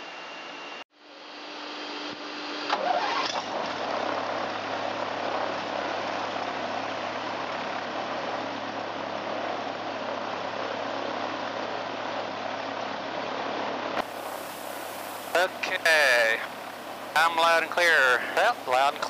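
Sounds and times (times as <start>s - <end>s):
aircraft engine starting and idling: 2.1s - 19.0s.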